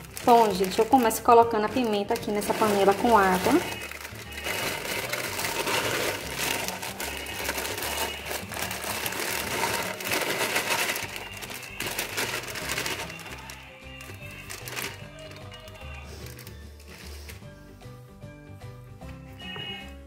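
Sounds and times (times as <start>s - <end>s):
plastic bag crinkling: 0.0s - 17.4s
background music: 0.0s - 20.0s.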